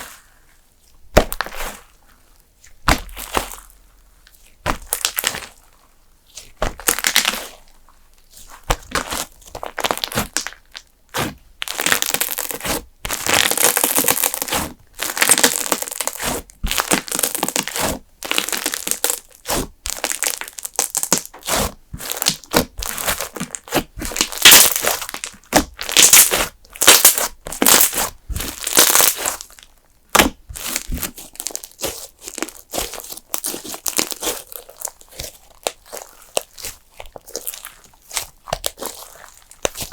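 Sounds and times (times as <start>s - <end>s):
slime crackling and popping: 4.5s - 5.6s, 6.6s - 7.5s, 8.6s - 39.9s.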